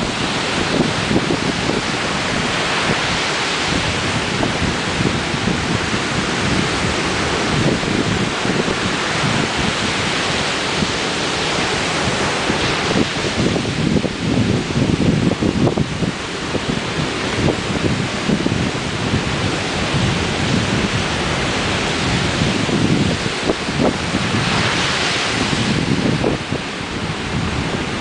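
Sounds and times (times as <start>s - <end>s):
ocean surf washing ashore: 0.0s - 28.0s
wind buffeting microphone: 0.0s - 28.0s.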